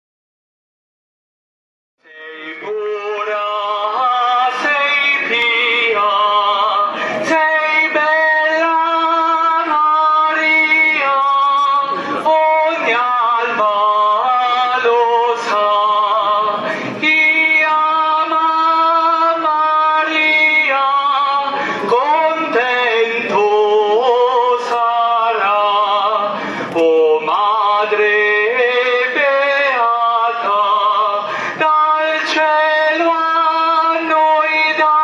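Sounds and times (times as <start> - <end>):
slow music with singing: 2.0 - 35.0.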